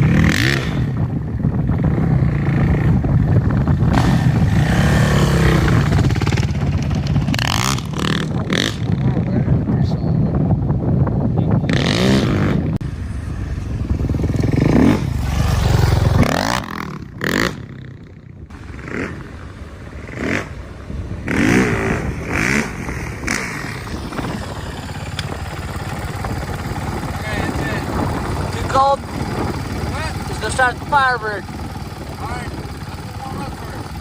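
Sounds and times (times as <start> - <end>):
vehicle engine revving: 0.0 - 9.2, 11.5 - 34.0.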